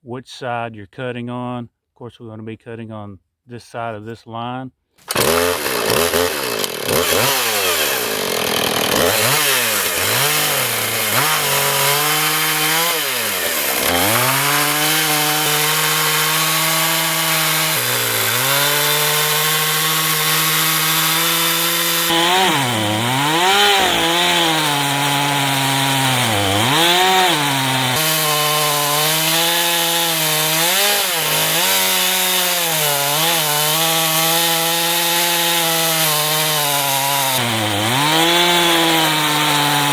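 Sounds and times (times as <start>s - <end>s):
chainsaw cutting log: 5.0s - 39.9s.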